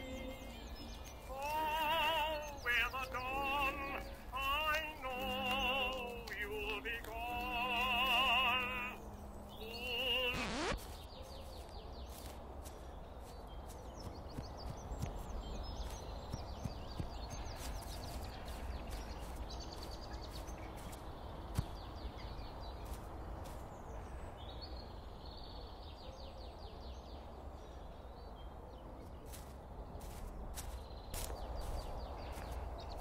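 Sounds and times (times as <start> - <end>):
low wind rumble: 0.0 - 33.0
songbird chirping: 0.0 - 33.0.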